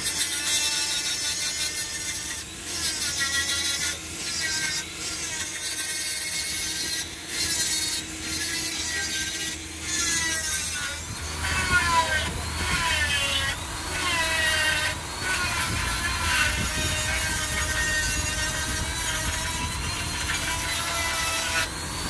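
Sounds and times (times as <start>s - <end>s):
die grinder grinding metal: 0.0s - 22.0s.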